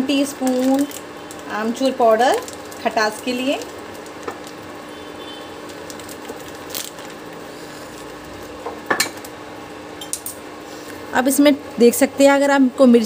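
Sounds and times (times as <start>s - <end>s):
pan simmering with hiss: 0.1s - 11.8s.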